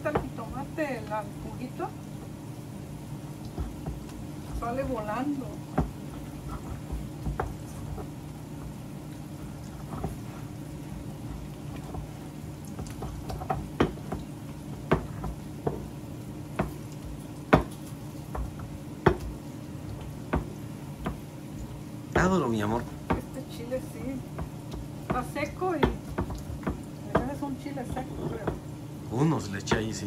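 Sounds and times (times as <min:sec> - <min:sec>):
food sizzling and popping in pan: 0:00.0 - 0:30.0
steady low hum: 0:00.0 - 0:30.0.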